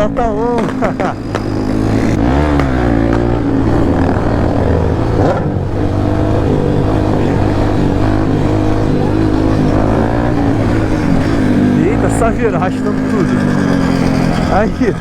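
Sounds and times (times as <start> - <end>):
motorcycle engine running: 0.0 - 15.0
other vehicles' engines: 0.0 - 15.0.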